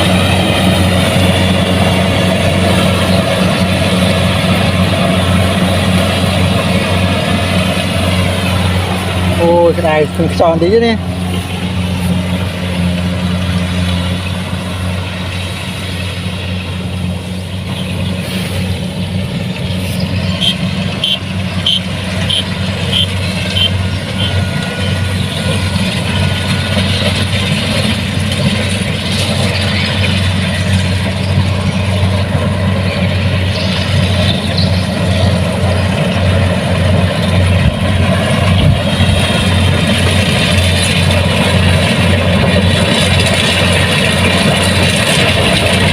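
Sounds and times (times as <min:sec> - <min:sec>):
combine harvester diesel engine: 0:00.0 - 0:45.9.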